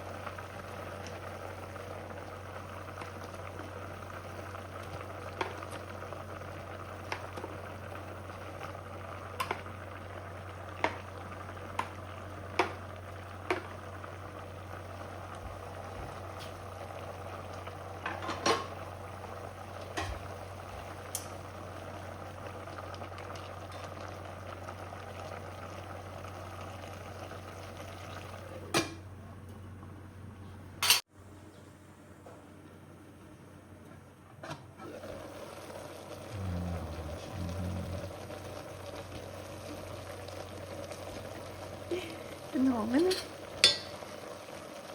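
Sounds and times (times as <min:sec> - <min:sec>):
pot of food bubbling: 0:00.0 - 0:28.7, 0:34.8 - 0:44.9.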